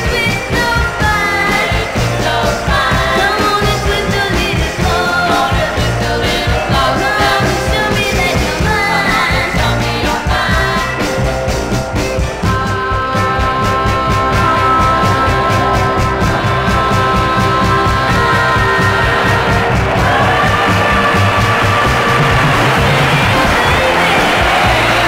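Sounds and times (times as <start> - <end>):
women singing: 0.0 - 11.4, 12.3 - 25.0
rock and roll band: 0.0 - 25.0.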